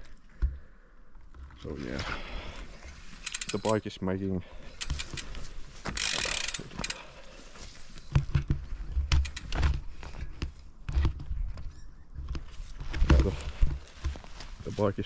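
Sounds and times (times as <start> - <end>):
bike frame creaking and clicking: 0.0 - 14.5.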